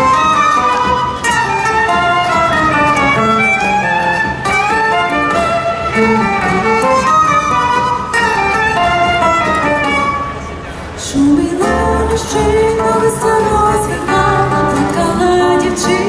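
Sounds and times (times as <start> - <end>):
violin melody: 0.0 - 10.7, 11.4 - 16.0
acoustic guitar: 0.0 - 16.0.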